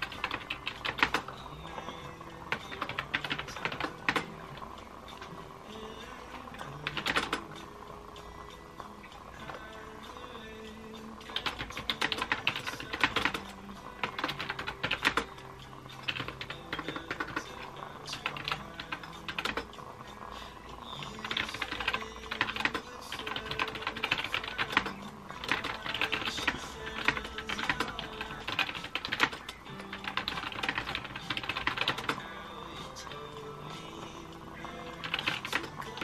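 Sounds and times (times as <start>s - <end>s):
typing on a laptop keyboard: 0.0s - 4.4s, 6.6s - 7.7s, 9.4s - 19.9s, 20.8s - 36.0s
piano music: 0.0s - 36.0s.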